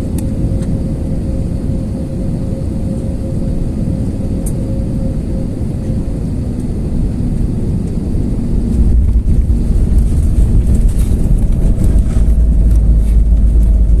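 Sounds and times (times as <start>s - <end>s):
airliner deep rumble: 0.0s - 14.0s.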